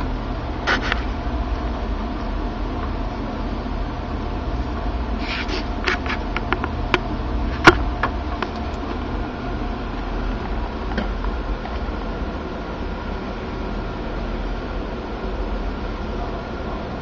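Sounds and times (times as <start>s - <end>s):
computer hum: 0.0s - 17.0s.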